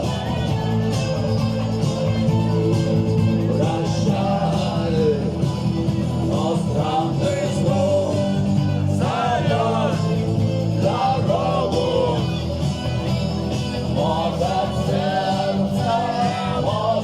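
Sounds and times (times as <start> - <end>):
rock song with singing: 0.0 - 17.0.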